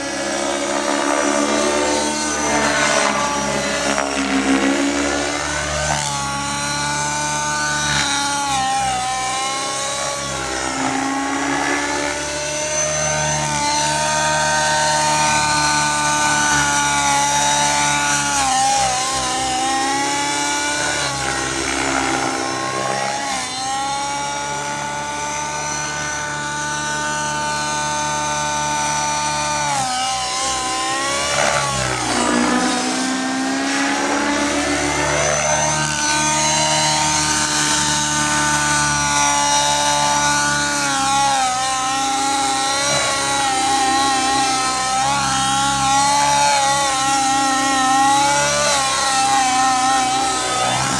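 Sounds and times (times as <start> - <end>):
model helicopter engine whine: 0.0 - 50.9.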